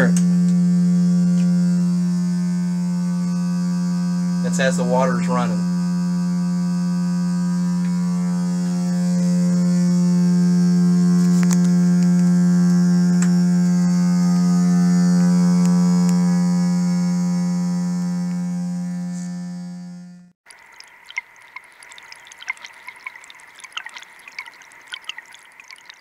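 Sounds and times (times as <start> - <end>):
water pipes howling: 0.0 - 16.4, 20.5 - 26.0.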